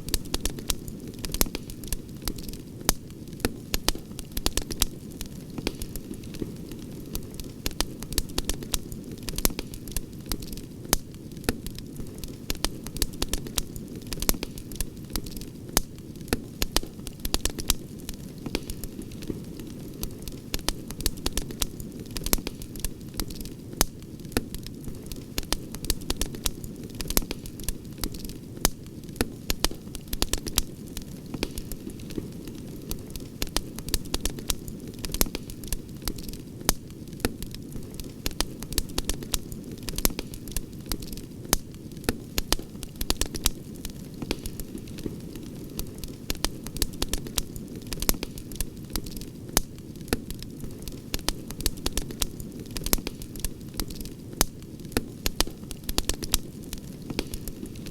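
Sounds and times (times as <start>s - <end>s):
campfire crackling and popping: 0.0s - 57.9s
low rumble of burning: 0.0s - 57.9s.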